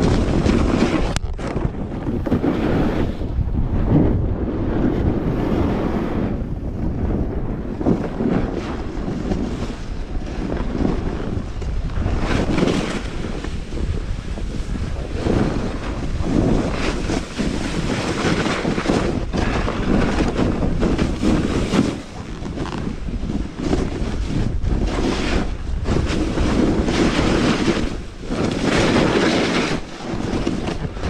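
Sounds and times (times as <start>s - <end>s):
snowboard scraping over snow: 0.0s - 31.0s
wind rushing over microphone: 0.0s - 31.0s.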